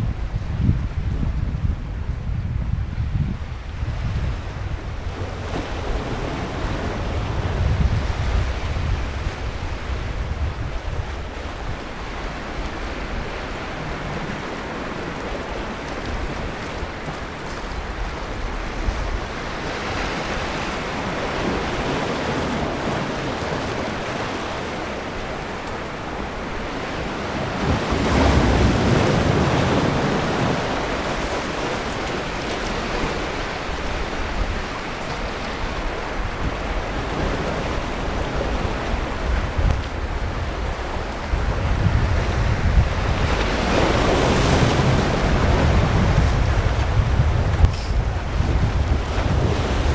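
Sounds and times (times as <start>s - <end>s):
wind buffeting microphone: 0.0s - 49.9s
sea waves breaking on beach: 3.4s - 49.9s.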